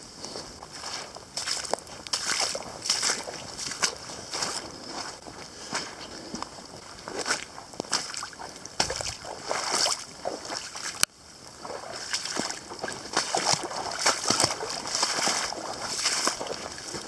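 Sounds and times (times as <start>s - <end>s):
footsteps splashing through water: 0.6s - 11.0s, 11.6s - 17.0s.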